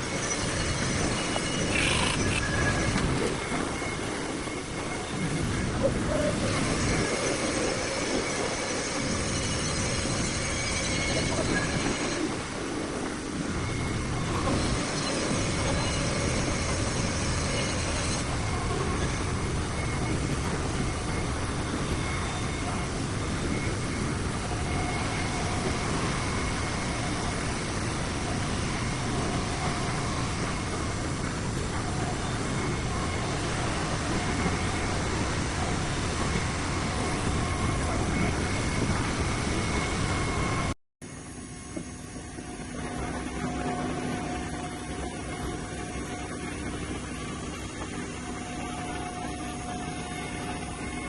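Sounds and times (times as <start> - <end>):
faint high whining tones: 0.0 - 51.0
industrial machinery noise: 0.0 - 51.0.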